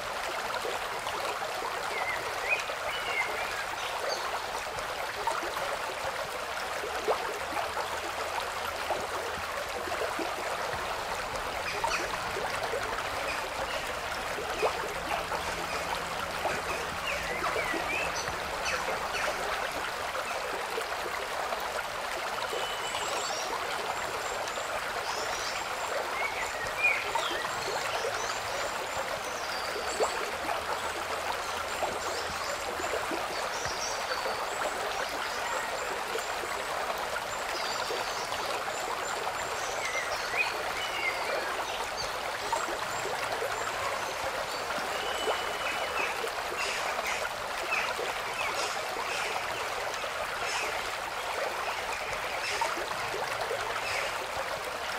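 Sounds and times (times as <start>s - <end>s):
water trickling: 0.0s - 54.9s.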